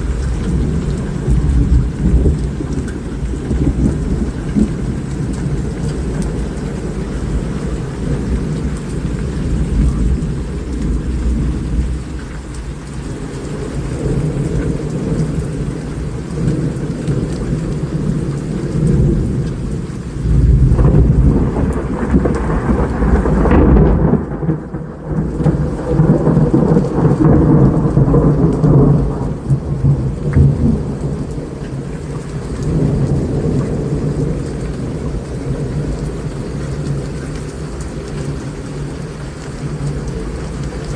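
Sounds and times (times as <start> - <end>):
heavy rain: 0.0 - 40.9
rolling thunder: 0.0 - 40.9.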